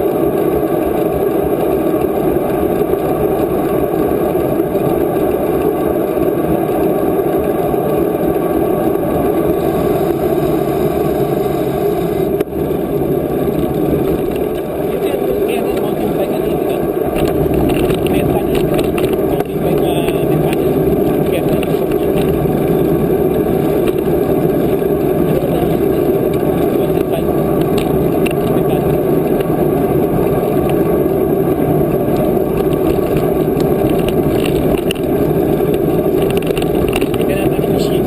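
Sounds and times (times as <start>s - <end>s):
wind noise on microphone: 0.0s - 38.0s.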